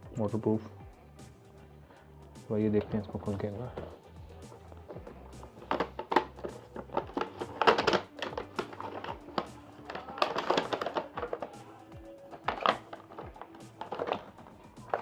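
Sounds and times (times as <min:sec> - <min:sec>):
background music: 0:00.0 - 0:15.0
plastic packaging clicks and rustles: 0:02.8 - 0:15.0.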